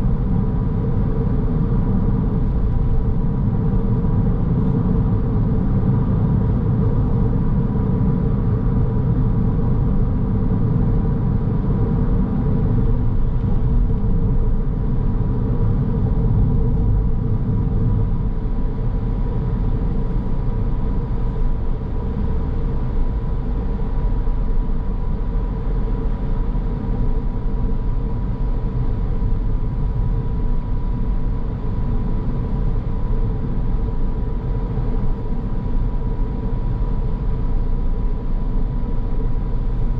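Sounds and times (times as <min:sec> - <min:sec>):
car engine and tyre rumble: 0:00.0 - 0:39.9
faint steady whine: 0:00.0 - 0:39.9.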